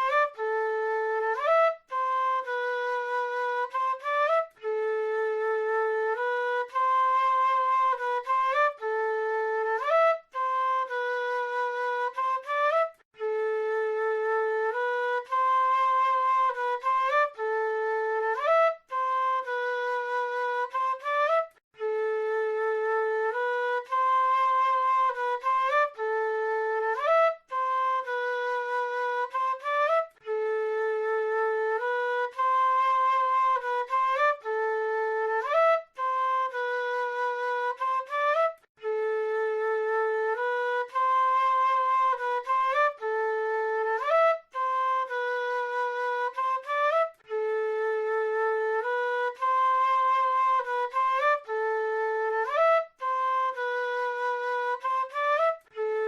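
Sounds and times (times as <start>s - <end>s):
flute playing slow melody: 0.0s - 56.0s.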